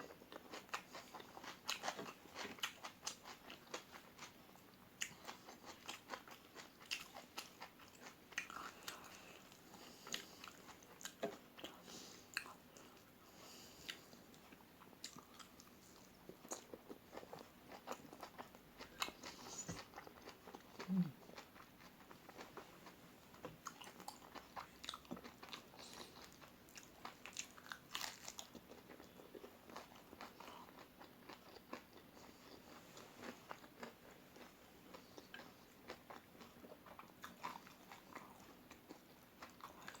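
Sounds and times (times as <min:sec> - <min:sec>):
chewing crispy food: 0:00.0 - 0:40.0.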